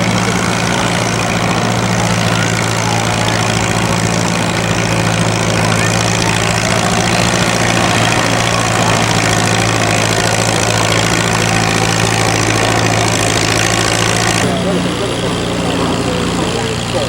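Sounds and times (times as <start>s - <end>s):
tractor engine under load: 0.0s - 17.0s.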